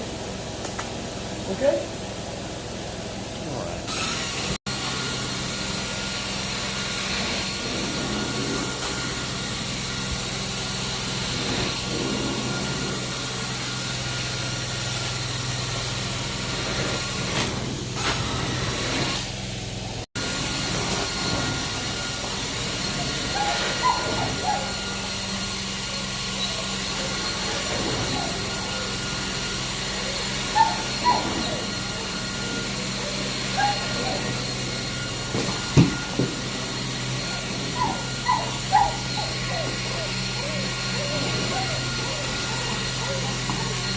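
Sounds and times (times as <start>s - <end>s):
carpet extractor humming: 0.1s - 43.9s.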